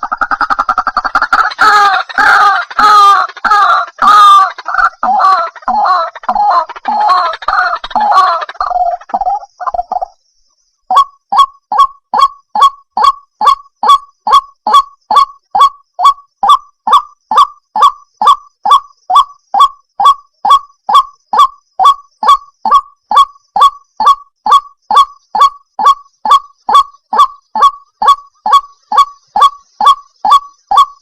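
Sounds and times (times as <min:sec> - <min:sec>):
waterhen calling: 0:00.0 - 0:10.1, 0:10.9 - 0:31.0.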